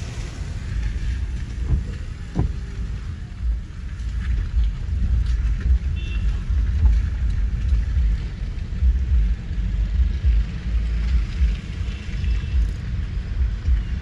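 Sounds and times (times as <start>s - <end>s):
car rumble in heavy rain: 0.0s - 14.0s
rain and road spray hiss: 0.0s - 14.0s.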